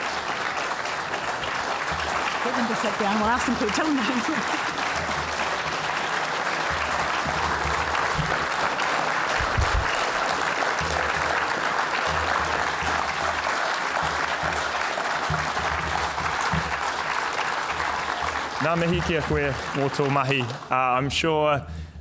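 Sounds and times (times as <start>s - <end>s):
large audience clapping: 0.0s - 21.8s.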